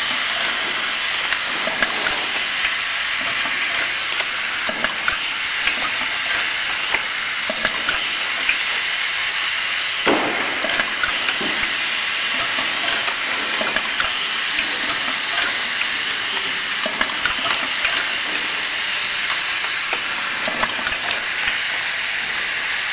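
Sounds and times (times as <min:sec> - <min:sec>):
steady hiss: 0:00.0 - 0:22.9.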